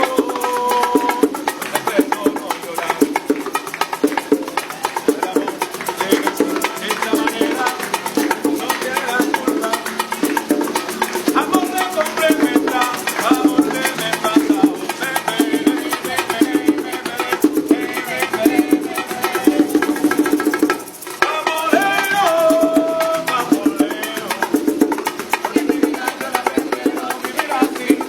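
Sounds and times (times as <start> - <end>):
latin-style music with percussion: 0.0 - 28.0.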